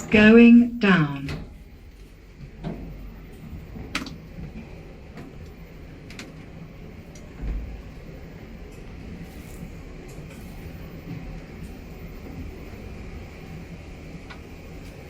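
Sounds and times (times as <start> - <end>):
lift car rumbling: 0.0 - 15.0.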